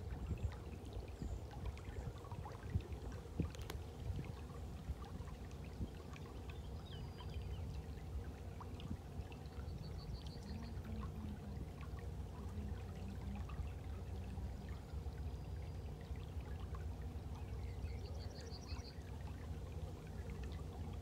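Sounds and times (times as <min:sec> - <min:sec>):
low engine rumble: 0:00.0 - 0:21.0
water washing at boat bow: 0:00.0 - 0:21.0.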